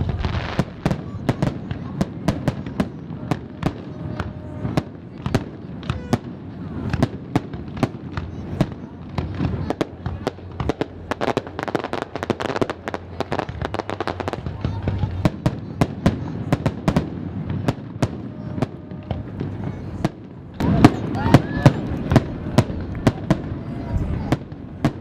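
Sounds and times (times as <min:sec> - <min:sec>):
fireworks bursting: 0:00.0 - 0:25.0
rapid firework crackling: 0:00.0 - 0:25.0.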